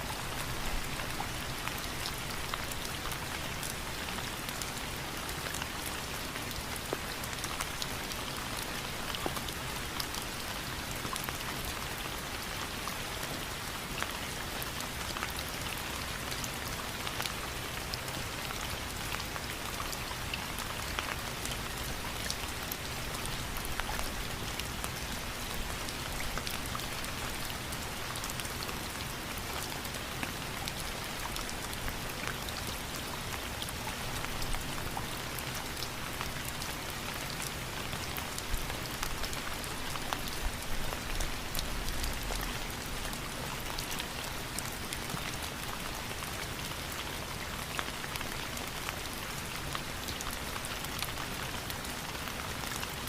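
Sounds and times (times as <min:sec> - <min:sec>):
raindrops ticking on a surface: 0:00.0 - 0:53.0
steady rain falling: 0:00.0 - 0:53.0.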